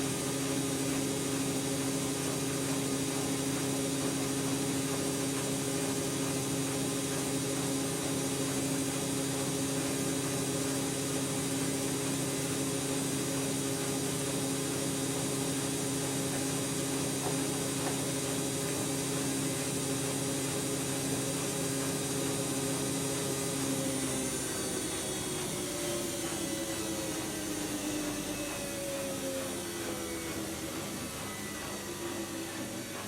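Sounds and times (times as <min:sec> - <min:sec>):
washing machine motor whine: 0:00.0 - 0:33.0.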